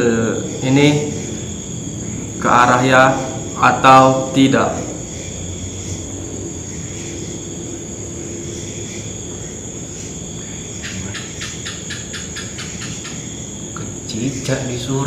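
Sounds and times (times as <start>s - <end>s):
gecko chirping call: 0.0s - 15.0s
high insect trill: 0.0s - 15.0s.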